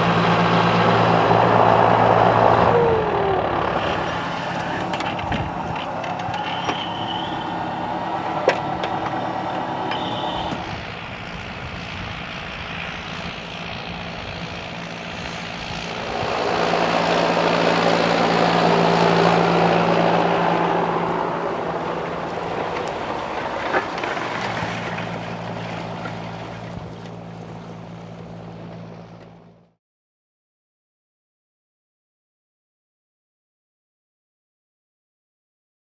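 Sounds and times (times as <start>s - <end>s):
diesel tractor engine under load: 0.0s - 29.8s.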